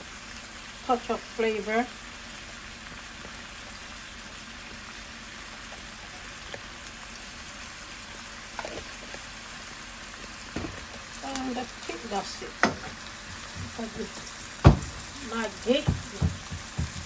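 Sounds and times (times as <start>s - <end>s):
oil sizzling in a pot: 0.0s - 17.0s.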